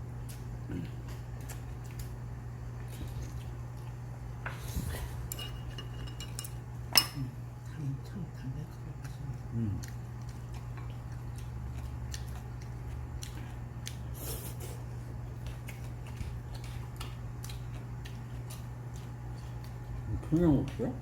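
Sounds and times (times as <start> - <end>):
chewing and crunching: 0.0 - 6.7, 7.5 - 21.0
steady low hum: 0.0 - 21.0.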